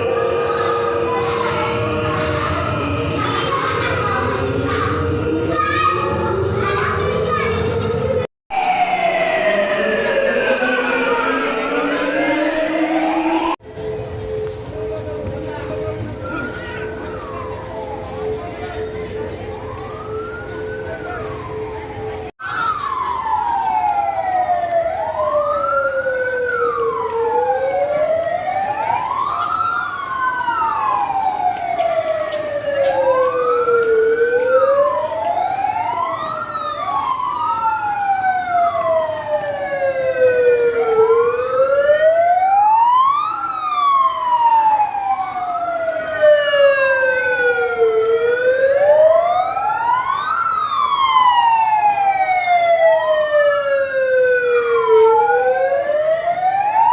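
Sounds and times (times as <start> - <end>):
sirens wailing: 0.0 - 56.9.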